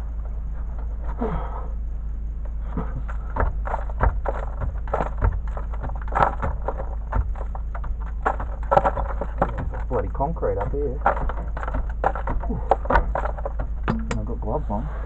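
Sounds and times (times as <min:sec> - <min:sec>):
steady low rumble: 0:00.0 - 0:15.0
knocks and scrapes in soil: 0:02.4 - 0:15.0.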